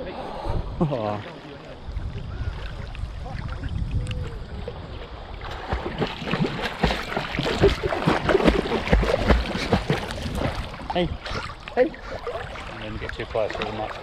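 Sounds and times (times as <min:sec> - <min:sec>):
river water splashing: 0:00.8 - 0:14.0.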